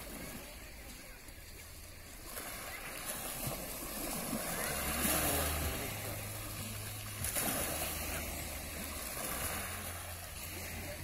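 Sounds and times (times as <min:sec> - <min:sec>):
waves washing onto pebbles: 0:00.0 - 0:11.0.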